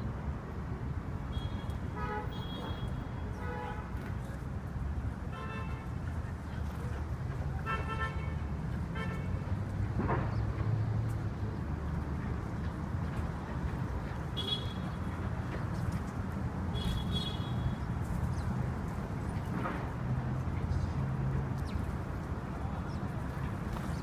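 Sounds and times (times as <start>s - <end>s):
city traffic hum: 0.0s - 24.0s.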